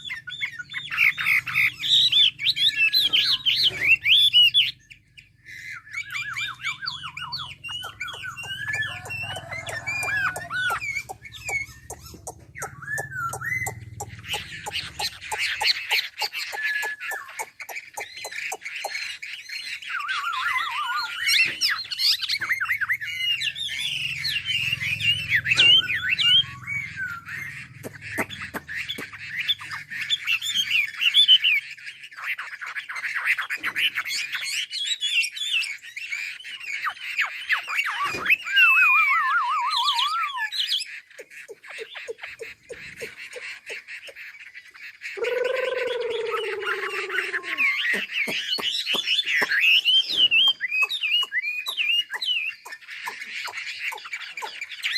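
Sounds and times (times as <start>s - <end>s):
bird singing whistled trills: 0.0s - 54.9s.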